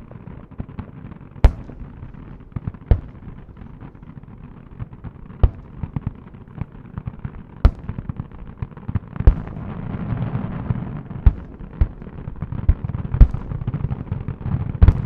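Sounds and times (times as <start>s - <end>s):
firework crackle: 0.0s - 15.0s
small firework pops: 0.0s - 15.0s.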